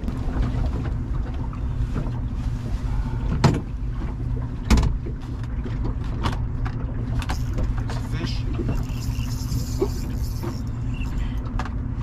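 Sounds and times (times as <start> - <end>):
boat motor running: 0.0 - 12.0
water noise: 0.0 - 12.0
wind: 0.0 - 12.0.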